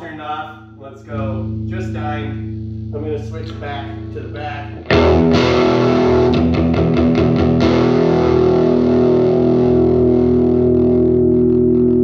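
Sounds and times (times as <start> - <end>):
distorted electric guitar: 1.1 - 12.0.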